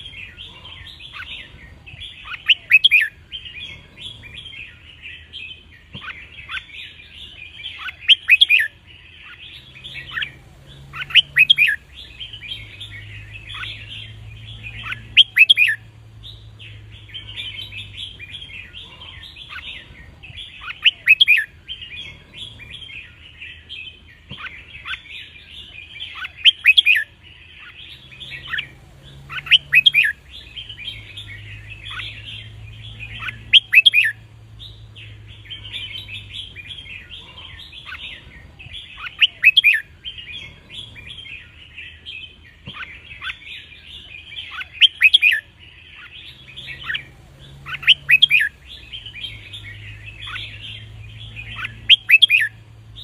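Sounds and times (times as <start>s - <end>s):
bird twittering chatter: 0.0s - 53.0s
loud clear bird song phrases: 0.0s - 53.0s.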